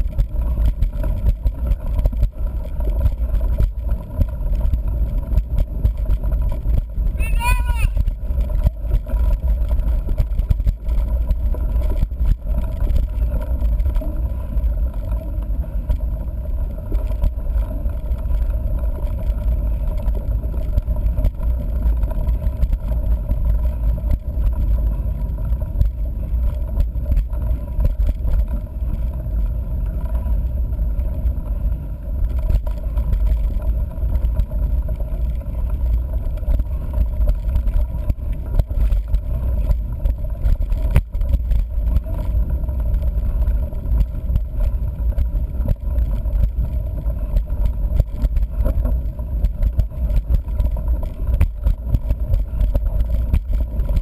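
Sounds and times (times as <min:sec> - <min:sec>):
bike knocks and rattles: 0:00.0 - 0:07.2, 0:08.0 - 0:54.0
bike tyres rolling on dirt: 0:00.0 - 0:54.0
wind on microphone: 0:00.0 - 0:54.0.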